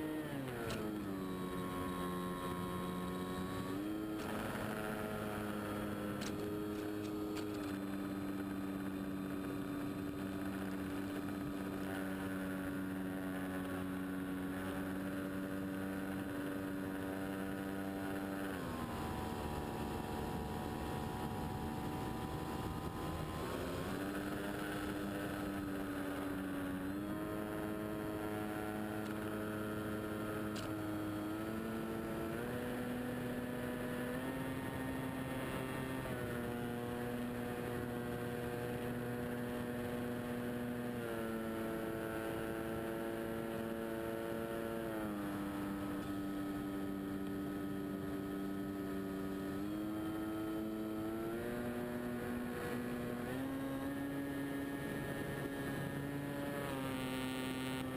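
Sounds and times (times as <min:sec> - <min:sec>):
model plane engine: 0:00.0 - 0:57.9
propeller and wind noise: 0:00.0 - 0:57.9.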